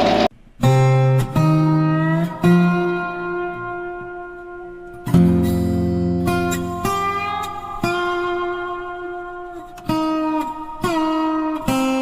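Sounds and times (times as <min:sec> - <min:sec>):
guitar playing slow notes: 0:00.0 - 0:12.0.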